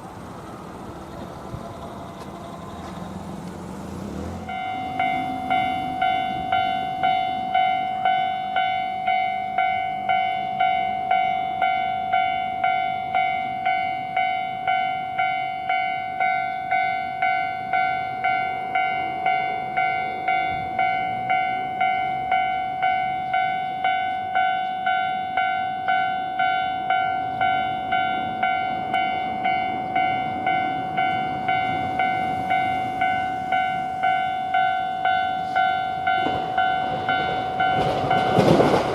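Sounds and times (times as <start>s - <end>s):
level crossing warning bell ringing: 0.0s - 3.4s, 4.4s - 38.9s.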